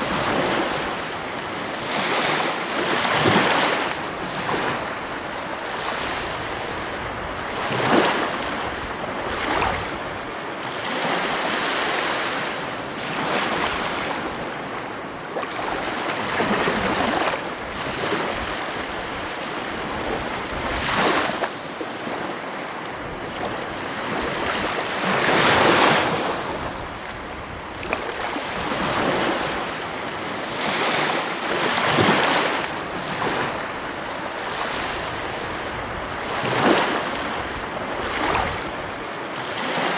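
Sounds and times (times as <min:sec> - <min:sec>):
ocean waves crashing: 0:00.0 - 0:39.9.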